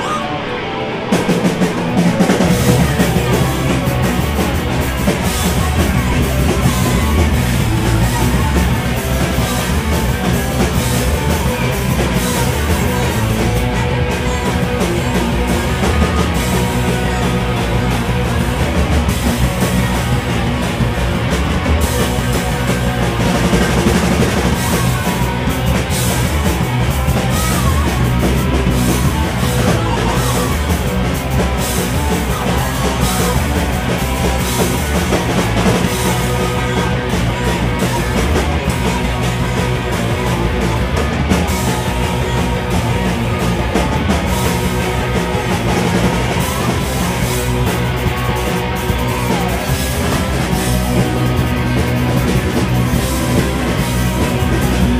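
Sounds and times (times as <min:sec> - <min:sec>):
live rock band playing: 0:00.0 - 0:54.9
drum kit with crashing cymbals: 0:01.2 - 0:54.9.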